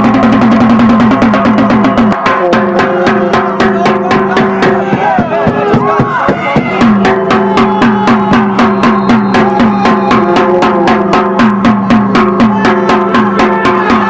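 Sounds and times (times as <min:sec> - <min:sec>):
drum-driven music: 0:00.0 - 0:14.0.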